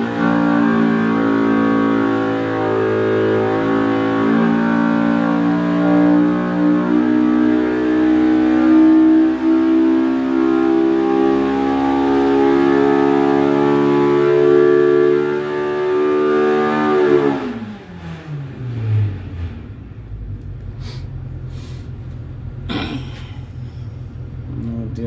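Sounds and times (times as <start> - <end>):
engine at full throttle: 0.0 - 25.0.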